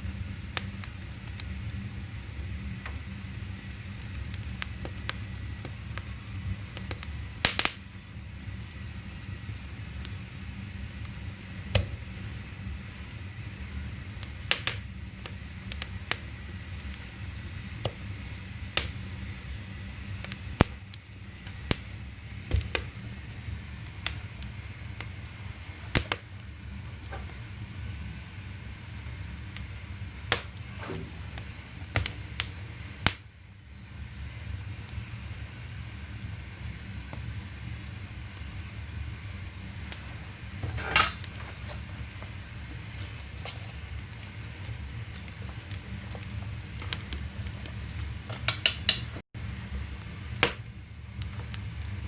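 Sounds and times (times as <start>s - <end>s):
firewood crackling and popping: 0.0s - 52.0s
low steady fire rumble: 0.0s - 52.0s.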